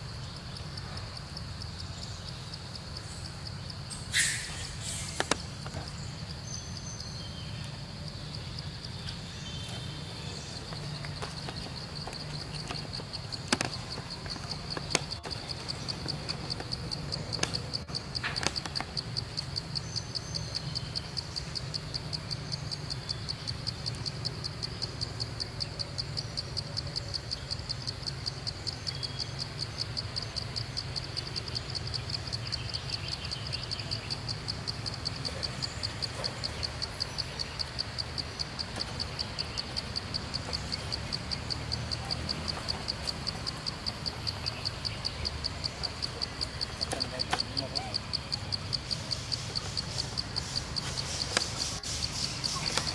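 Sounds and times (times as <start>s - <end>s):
high-pitched insect trill: 0.0s - 52.9s
sharp clicks: 3.4s - 6.0s, 10.6s - 52.9s.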